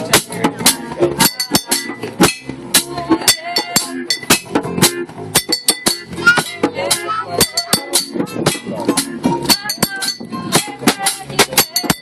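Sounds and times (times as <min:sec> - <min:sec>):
bottles clinking as percussion: 0:00.0 - 0:12.0
pitched instrument notes: 0:00.0 - 0:12.0.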